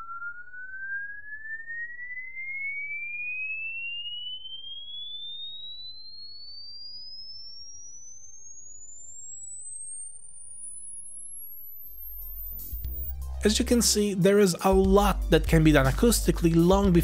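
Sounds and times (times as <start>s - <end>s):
sine tone rising in pitch: 0.0s - 14.6s.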